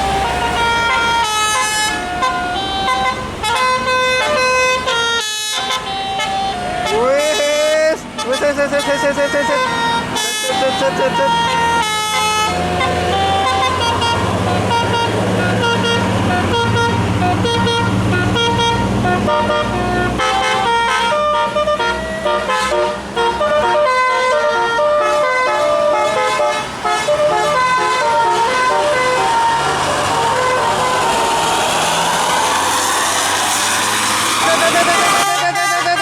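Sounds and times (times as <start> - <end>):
musical air horn melody: 0.0 - 36.0.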